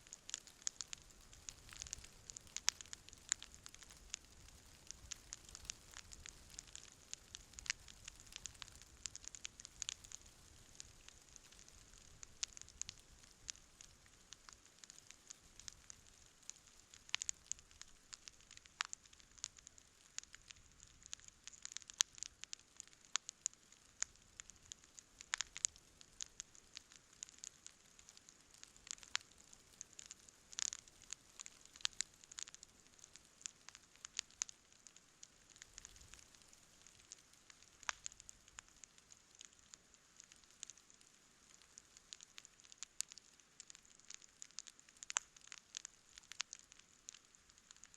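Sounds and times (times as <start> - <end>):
campfire crackling: 0.0 - 47.9
faint steady hiss: 0.0 - 47.9.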